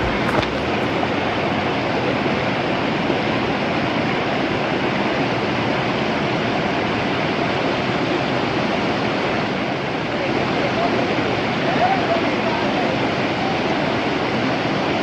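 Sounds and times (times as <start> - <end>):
river water rushing over rocks: 0.0 - 12.4.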